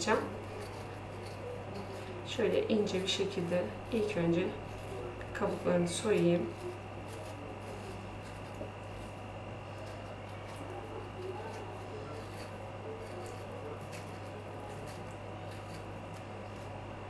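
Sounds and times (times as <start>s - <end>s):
knife scraping peach skin: 0.0s - 17.0s
steady low hum: 0.0s - 17.0s.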